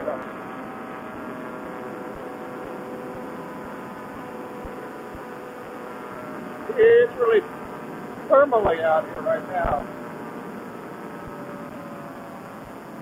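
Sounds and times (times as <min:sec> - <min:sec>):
paramotor engine droning: 0:00.0 - 0:13.0.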